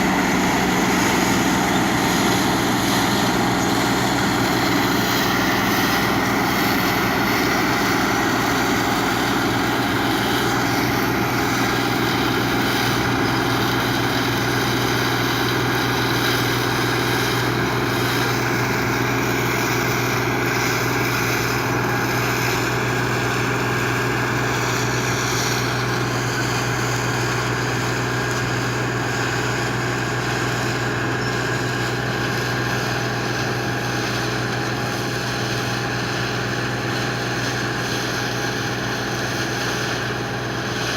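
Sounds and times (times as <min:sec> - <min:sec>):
combine harvester droning: 0:00.0 - 0:40.9.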